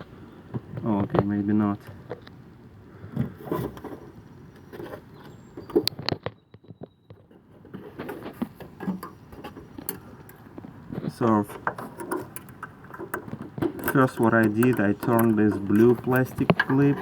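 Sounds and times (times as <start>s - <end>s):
hands handling car parts: 3.1s - 17.0s.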